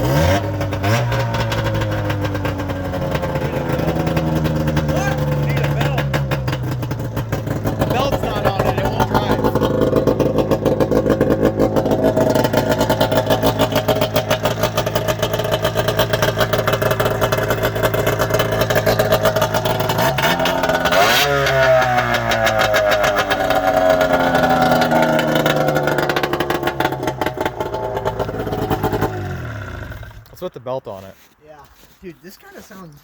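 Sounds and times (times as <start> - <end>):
snowmobile engine running and revving: 0.0 - 30.2.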